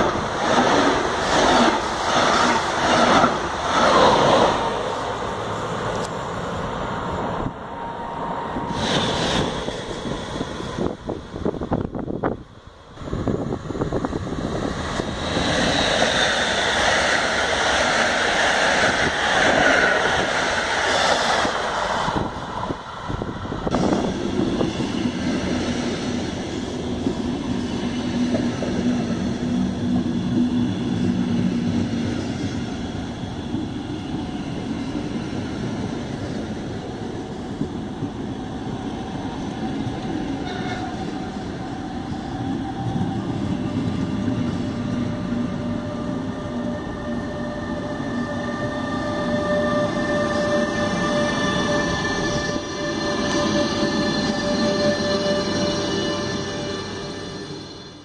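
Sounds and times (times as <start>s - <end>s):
train coaches rumbling on rails: 0.0s - 58.0s
train passing at speed: 0.0s - 58.0s.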